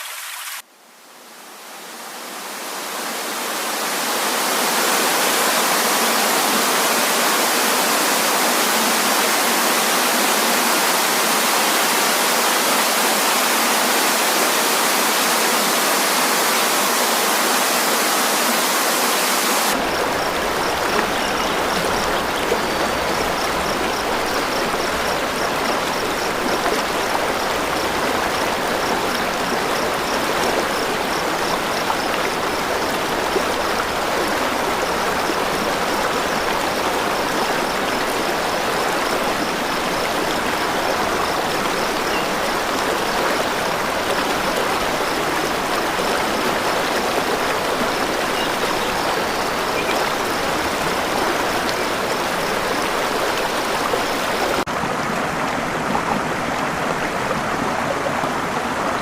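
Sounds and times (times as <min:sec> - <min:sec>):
waterfall water rushing: 0:00.0 - 0:00.6, 0:01.2 - 0:59.0.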